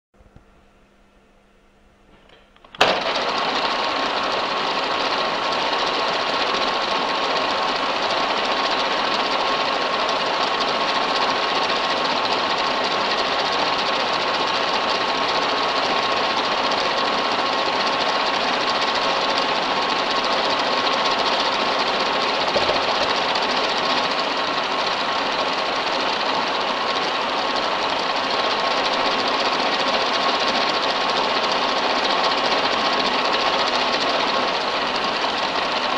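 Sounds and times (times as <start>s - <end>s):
milling machine running with whine: 2.1s - 35.9s.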